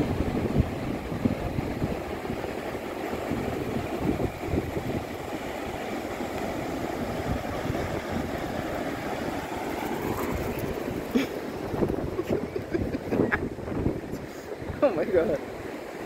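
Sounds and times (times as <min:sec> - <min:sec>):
wind buffeting microphone: 0:00.0 - 0:15.7
breaking surf: 0:00.0 - 0:16.0.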